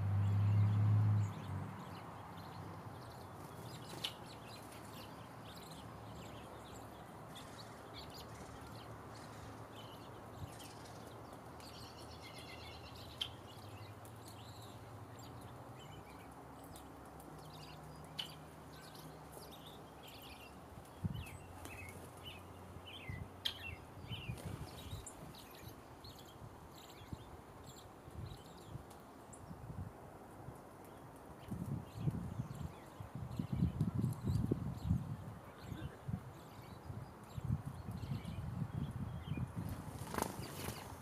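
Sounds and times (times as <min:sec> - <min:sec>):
wild birds chirping: 0:00.0 - 0:29.8, 0:30.6 - 0:41.0.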